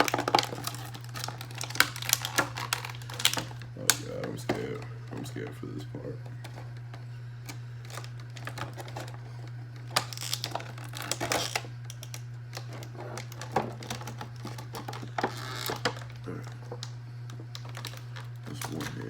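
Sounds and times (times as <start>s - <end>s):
plastic packaging clicking and crinkling: 0.0s - 5.5s, 6.2s - 19.0s
steady low hum: 0.0s - 19.0s.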